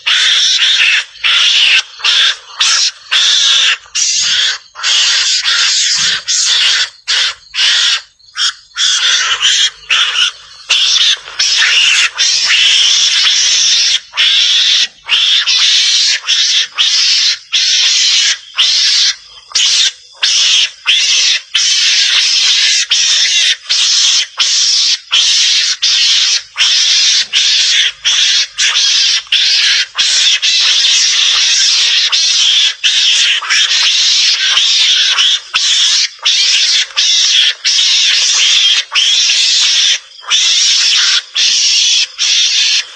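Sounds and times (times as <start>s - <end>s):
mongoose chattering: 0.0s - 42.9s.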